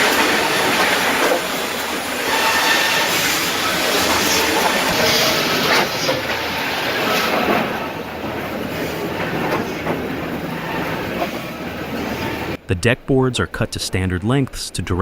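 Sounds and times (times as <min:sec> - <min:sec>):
knocks and clatter: 0:00.0 - 0:12.6
wood-processing machinery running: 0:00.0 - 0:12.6.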